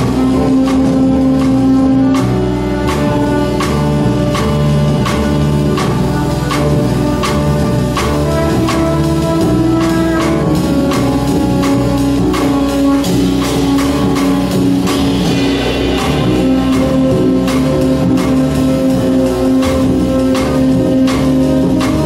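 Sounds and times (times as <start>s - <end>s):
drum and cymbal hits: 0.0s - 22.0s
jazz ensemble playing: 0.0s - 22.0s.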